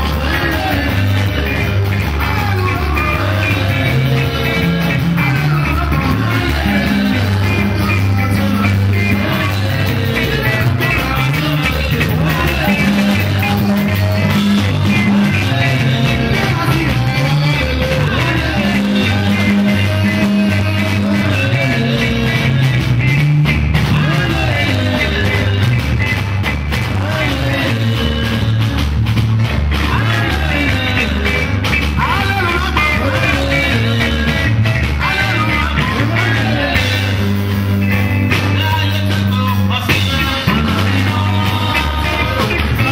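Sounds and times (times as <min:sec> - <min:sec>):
deep bass line: 0:00.0 - 0:42.9
drum kit beat: 0:00.0 - 0:42.9
electric guitars: 0:00.0 - 0:42.9
singing into microphones: 0:00.0 - 0:42.9.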